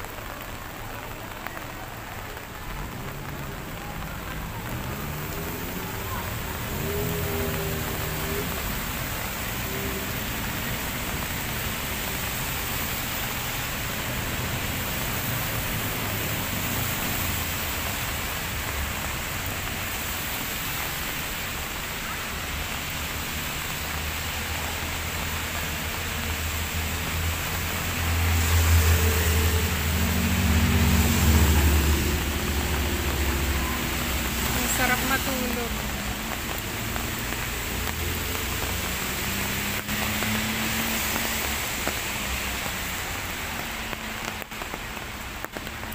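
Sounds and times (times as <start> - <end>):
rain on pavement and foliage: 0.0 - 45.9
traffic hiss on wet road: 0.0 - 45.9.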